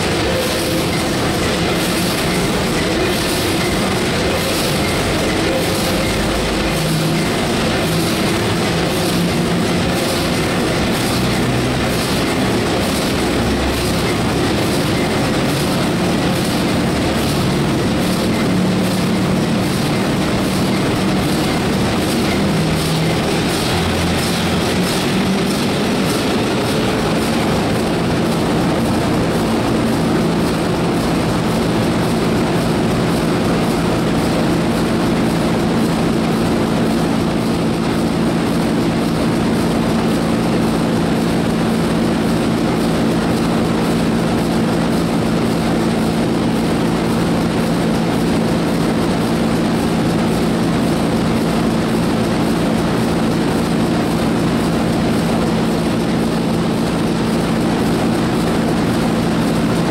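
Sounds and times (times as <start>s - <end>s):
diesel engine clattering: 0.0s - 59.9s.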